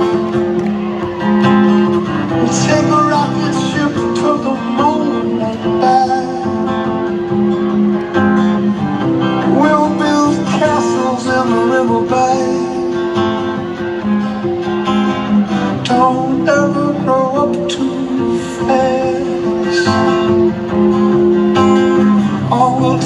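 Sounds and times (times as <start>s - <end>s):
live acoustic guitar music: 0.0s - 23.0s.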